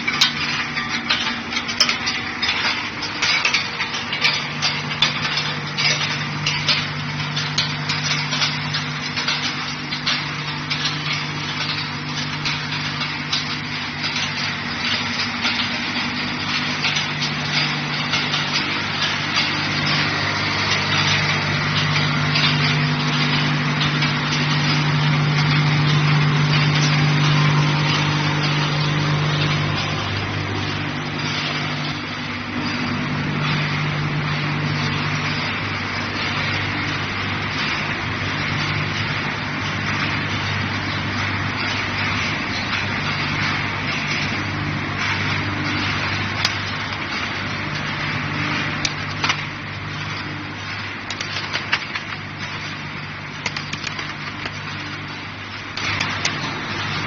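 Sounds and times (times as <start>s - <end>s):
dense rattling clatter: 0.0s - 57.0s
low machine hum: 0.0s - 57.0s.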